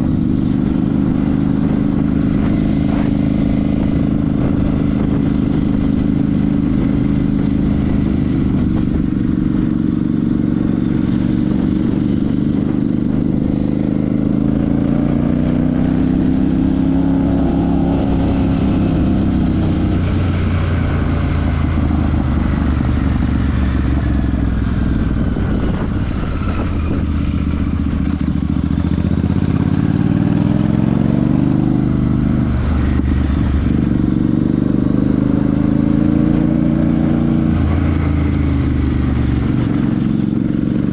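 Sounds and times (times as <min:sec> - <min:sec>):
motorcycle engine and exhaust: 0:00.0 - 0:40.9
wind and road noise: 0:00.0 - 0:40.9.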